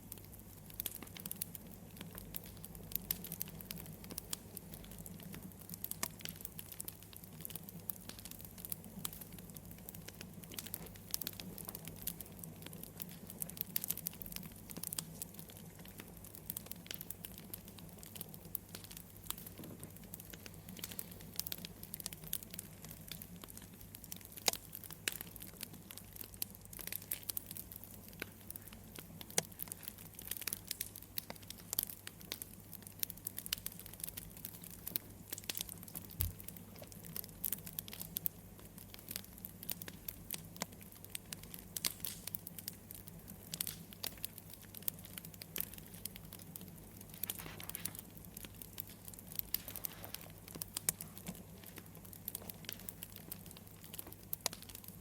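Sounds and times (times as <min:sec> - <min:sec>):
low steady hum: 0:00.0 - 0:55.0
wood fire crackling: 0:00.0 - 0:55.0.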